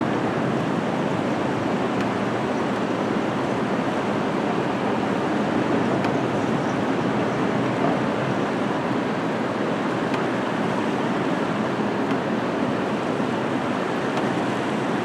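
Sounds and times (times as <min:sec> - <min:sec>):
distant traffic: 0:01.4 - 0:14.4.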